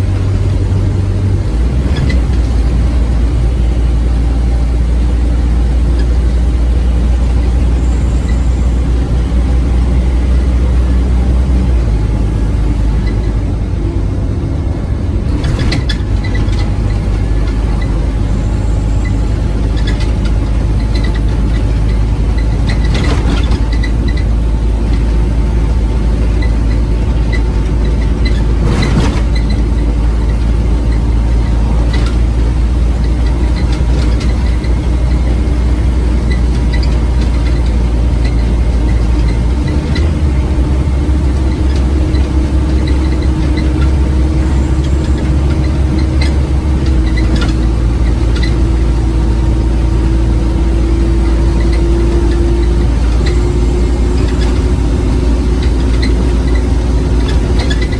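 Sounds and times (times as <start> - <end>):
bus body rattling: 0.0 - 57.9
bus diesel engine rumbling: 0.0 - 57.9.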